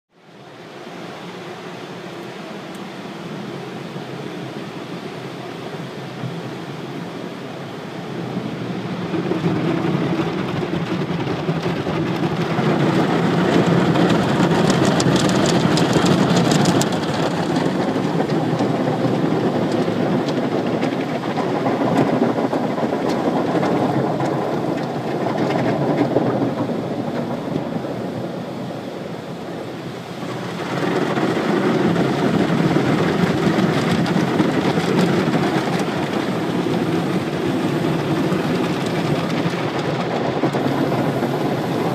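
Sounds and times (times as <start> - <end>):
car wash brushes and water spray: 0.8 - 41.9.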